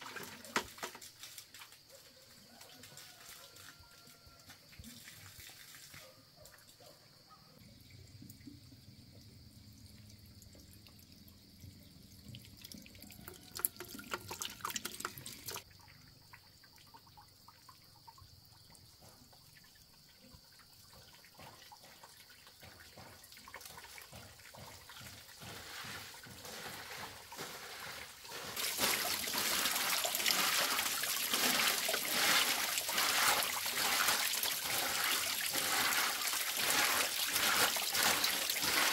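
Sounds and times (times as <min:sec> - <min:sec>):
water trickling: 0:07.8 - 0:38.9.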